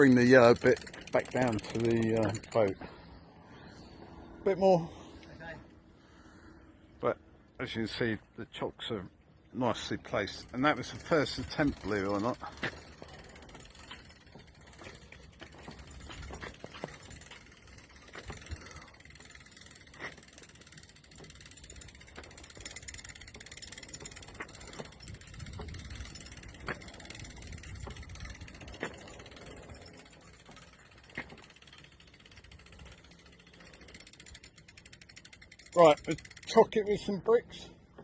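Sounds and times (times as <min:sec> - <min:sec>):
faint ratcheting: 0:00.0 - 0:03.2, 0:10.1 - 0:37.7.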